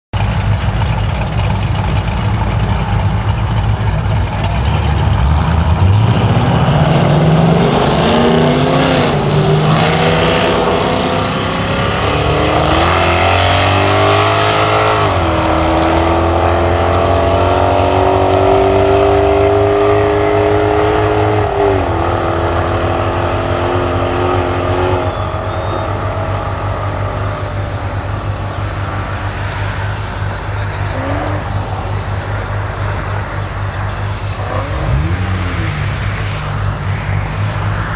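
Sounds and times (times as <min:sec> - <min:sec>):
car engine accelerating hard: 0:00.1 - 0:37.9.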